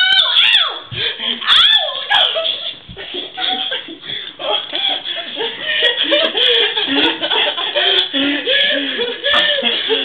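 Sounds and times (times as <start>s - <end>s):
people laughing hard: 1.0s - 10.0s.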